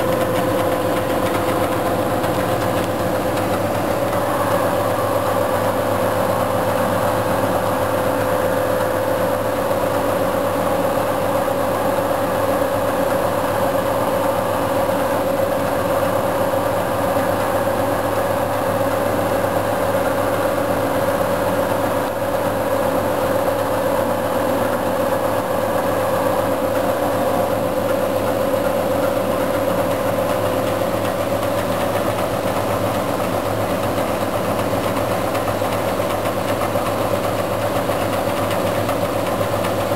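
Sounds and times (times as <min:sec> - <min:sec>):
machine hum with whine: 0:00.0 - 0:39.9.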